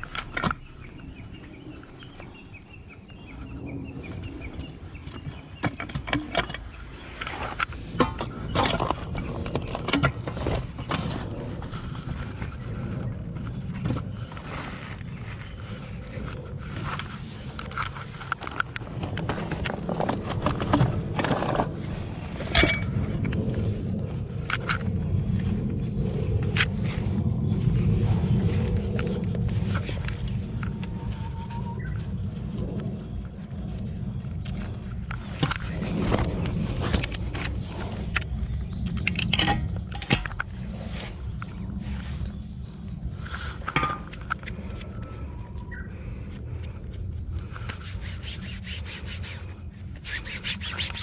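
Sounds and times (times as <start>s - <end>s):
low rumble: 0.0s - 50.2s.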